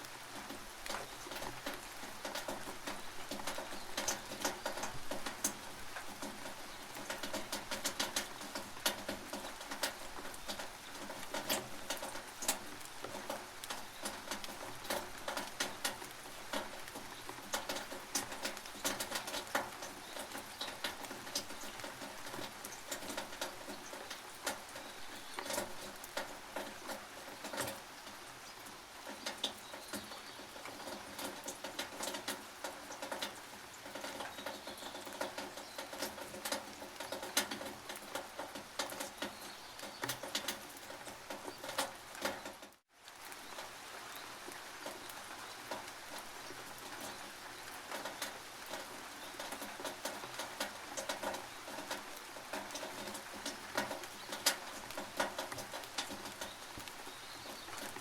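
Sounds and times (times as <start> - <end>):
rain dripping on a tin roof: 0.0 - 58.0.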